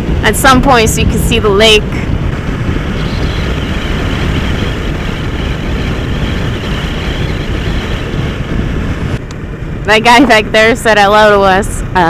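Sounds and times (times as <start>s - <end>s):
motorcycle cruising with wind rush: 0.0s - 12.0s.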